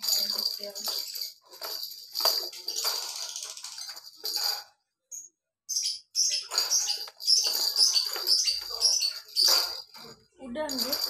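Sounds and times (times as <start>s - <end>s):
ball rattling in plastic track: 0.0s - 4.8s, 6.3s - 11.0s.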